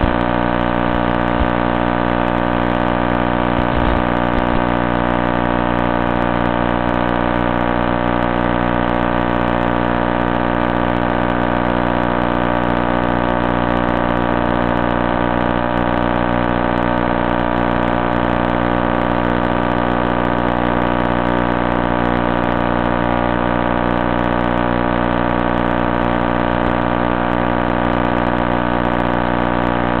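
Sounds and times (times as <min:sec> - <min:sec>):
steady electrical buzz: 0:00.0 - 0:30.0.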